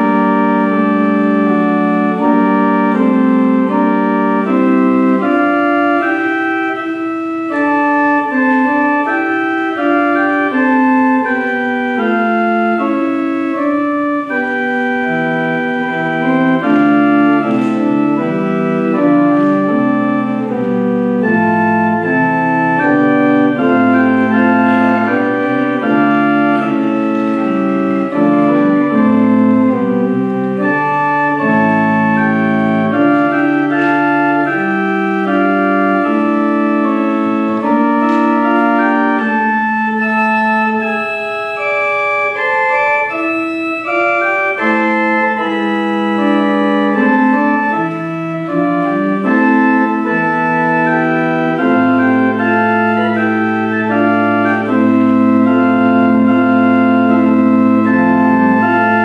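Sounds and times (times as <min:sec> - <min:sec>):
church pipe organ playing: 0:00.0 - 0:59.0.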